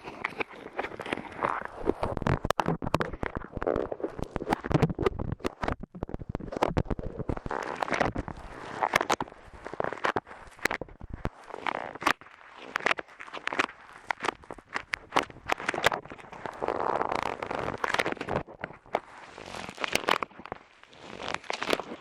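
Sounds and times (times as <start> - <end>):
clay crackling on microphone: 0.0 - 22.0.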